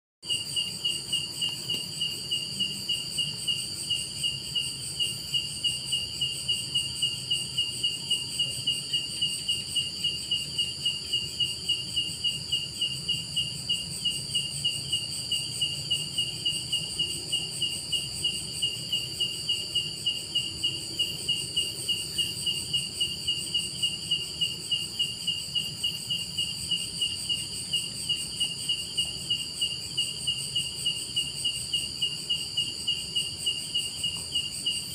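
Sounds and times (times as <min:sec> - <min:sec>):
insect chirping: 0:00.2 - 0:34.9.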